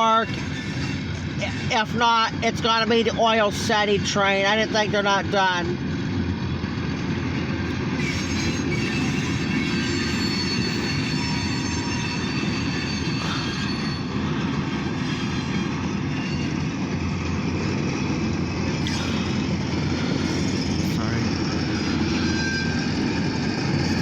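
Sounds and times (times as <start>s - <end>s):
high wheel squeal: 0.0s - 5.3s, 7.3s - 24.0s
steel wheels rumbling on rail: 0.0s - 24.0s.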